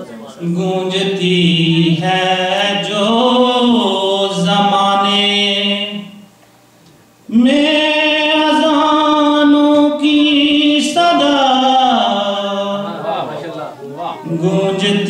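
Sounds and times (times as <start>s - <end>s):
man chanting: 0.3s - 6.2s, 7.3s - 13.2s, 14.0s - 15.0s.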